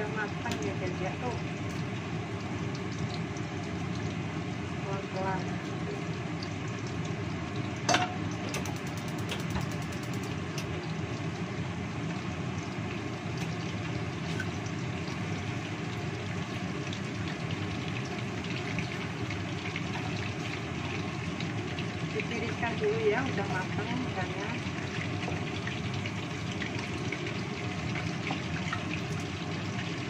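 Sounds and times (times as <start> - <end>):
fish sizzling in oil: 0.0 - 30.0.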